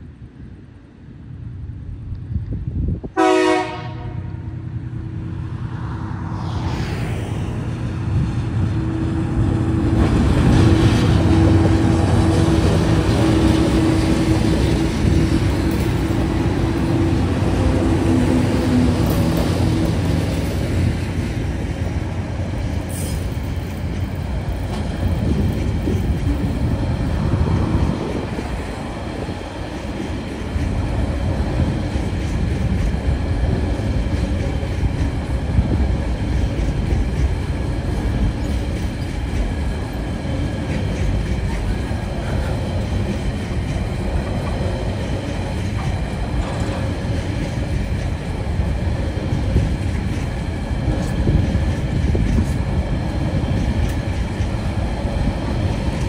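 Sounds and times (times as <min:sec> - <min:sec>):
diesel locomotive engines: 0:00.0 - 0:56.0.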